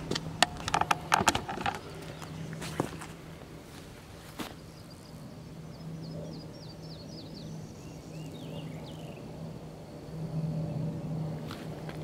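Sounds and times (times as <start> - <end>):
songbird singing: 0.0 - 12.0
steady low hum: 0.0 - 12.0.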